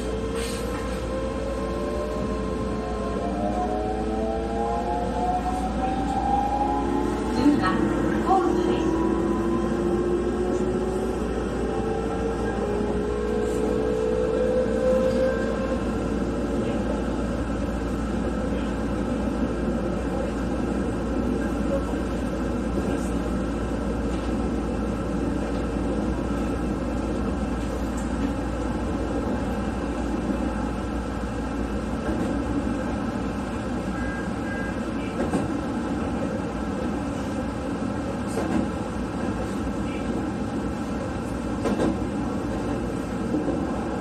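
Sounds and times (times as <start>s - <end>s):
wheels rumbling on rail: 0.0s - 44.0s.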